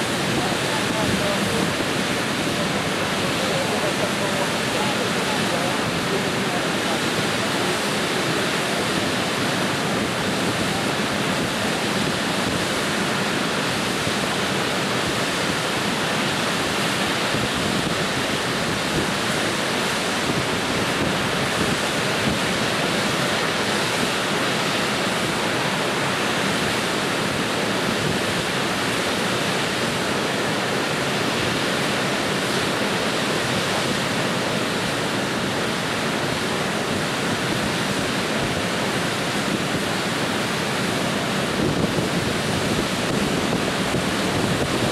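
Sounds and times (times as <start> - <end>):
water rushing over a weir: 0.0 - 44.9.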